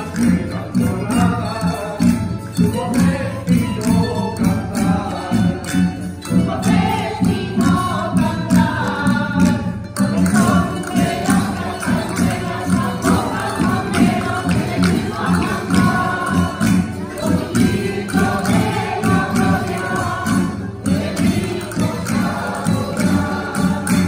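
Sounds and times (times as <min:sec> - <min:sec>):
group of voices singing: 0:00.0 - 0:24.0
string ensemble strumming chords: 0:00.0 - 0:24.0.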